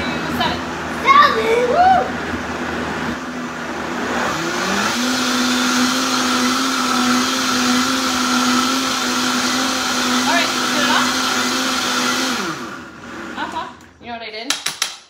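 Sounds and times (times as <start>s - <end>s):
blender motor whining: 1.5s - 13.9s.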